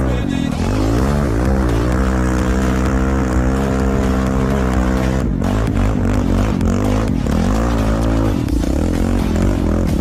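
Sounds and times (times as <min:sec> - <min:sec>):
quad bike engine revving: 0:00.0 - 0:10.0.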